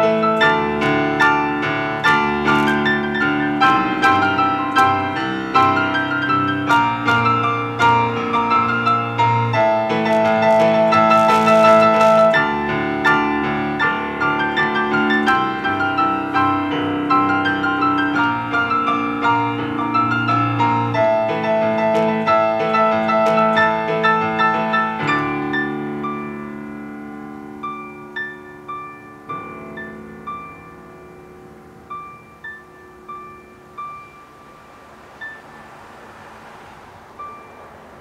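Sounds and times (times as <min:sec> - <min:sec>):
solo piano chords and melody: 0:00.0 - 0:38.0.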